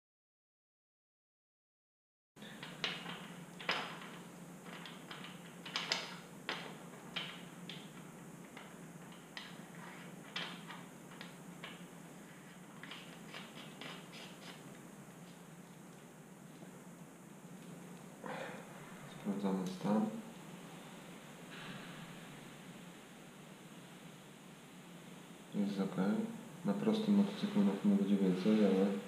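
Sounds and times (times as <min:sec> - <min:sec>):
steady low hum: 0:02.4 - 0:29.0.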